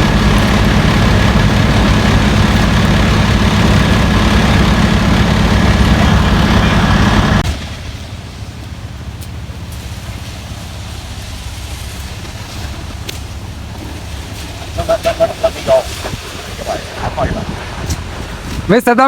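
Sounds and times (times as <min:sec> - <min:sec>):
thin steady whine: 0:00.0 - 0:19.0
truck engine running: 0:00.0 - 0:19.0.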